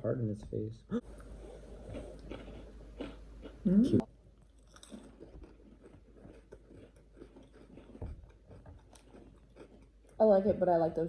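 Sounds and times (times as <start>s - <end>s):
chewing crunchy biscuits: 1.3s - 3.7s, 4.3s - 11.0s.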